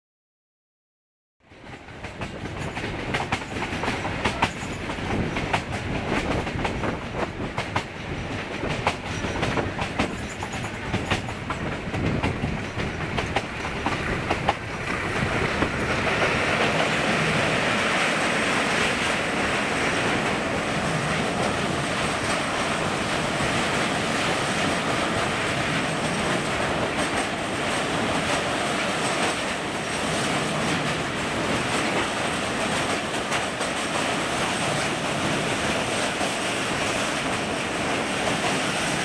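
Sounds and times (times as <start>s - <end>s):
train rumbling over bridge: 1.4s - 39.0s
train wheels clattering: 1.5s - 39.0s.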